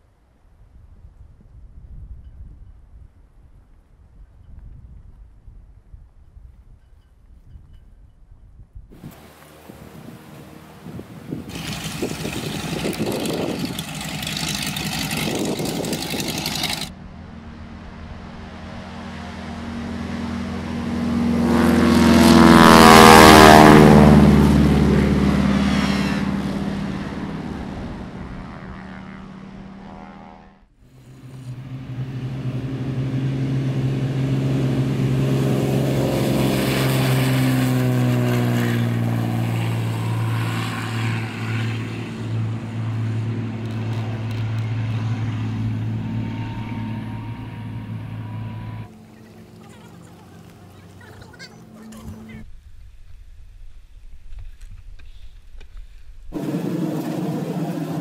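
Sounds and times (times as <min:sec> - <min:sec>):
propeller airplane passing: 0:08.9 - 0:54.4, 0:55.4 - 0:58.0.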